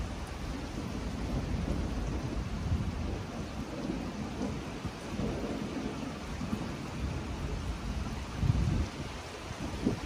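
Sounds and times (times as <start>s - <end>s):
rain hissing on pool and pavement: 0.0s - 10.0s.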